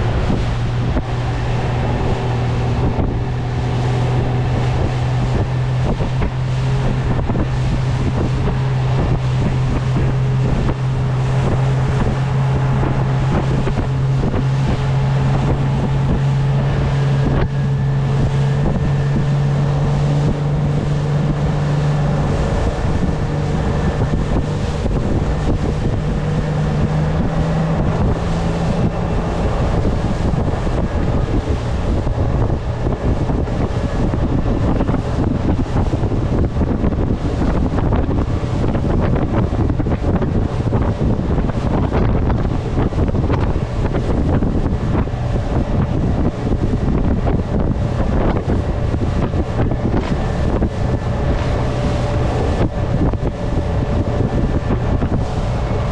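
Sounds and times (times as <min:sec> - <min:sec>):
speedboat engine running: 0:00.0 - 0:55.9
wind buffeting microphone: 0:00.0 - 0:55.9.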